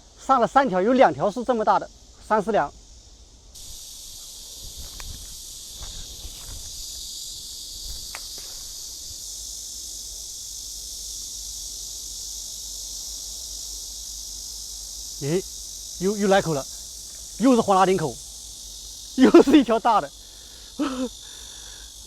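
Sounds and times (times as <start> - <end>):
insects buzzing chorus: 0.0 - 22.0.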